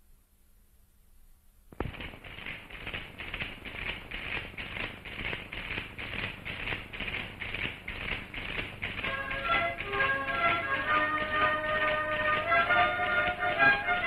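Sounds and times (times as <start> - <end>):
children marching on dirt road: 1.8 - 14.0.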